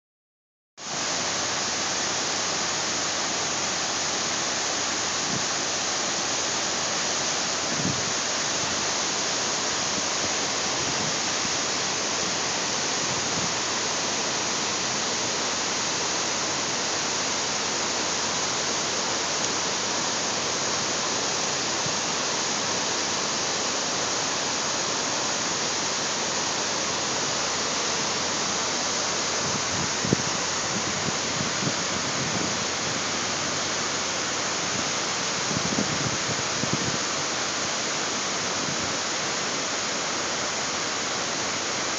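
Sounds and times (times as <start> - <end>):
waterfall rushing: 0.8 - 41.9.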